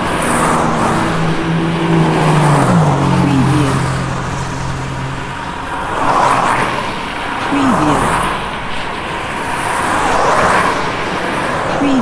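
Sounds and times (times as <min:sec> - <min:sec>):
cars driving past: 0:00.0 - 0:12.0
vehicle engine hum: 0:00.0 - 0:12.0.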